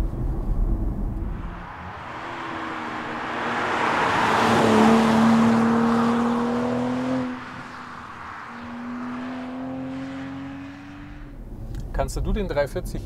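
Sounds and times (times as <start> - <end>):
car engine accelerating: 0.0 - 12.2.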